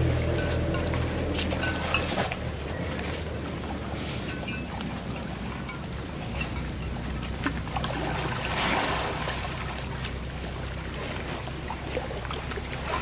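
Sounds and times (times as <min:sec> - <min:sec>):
low rumble: 0:00.0 - 0:13.0
water sloshing and splashing: 0:00.0 - 0:13.0.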